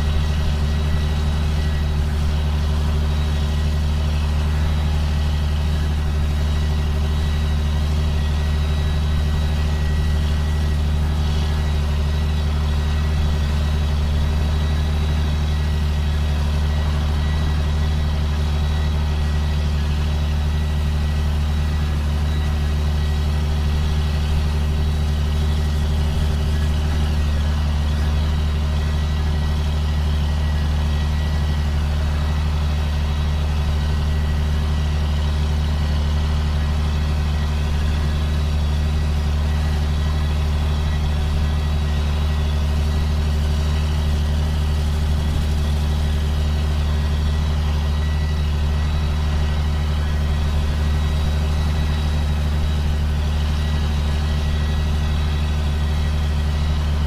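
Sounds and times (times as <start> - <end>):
sprayer engine droning: 0.0 - 57.0.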